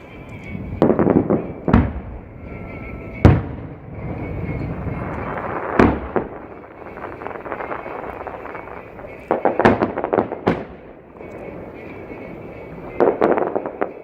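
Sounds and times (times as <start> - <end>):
fireworks crackling pops: 0.0 - 12.2
firework booms with echoing rumble: 0.0 - 14.0.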